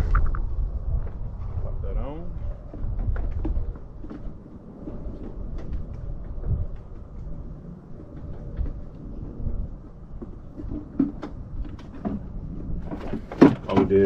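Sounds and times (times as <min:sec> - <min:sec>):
low rumbling noise: 0:00.0 - 0:14.0.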